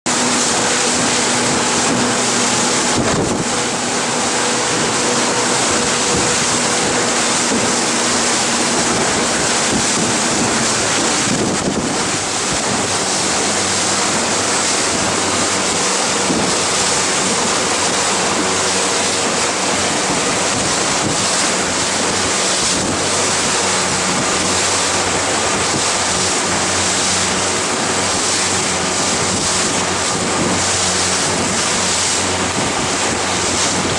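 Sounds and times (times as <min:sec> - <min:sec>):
choppy water: 0:00.1 - 0:33.9
low engine hum: 0:00.1 - 0:33.9
wind buffeting microphone: 0:00.1 - 0:33.9.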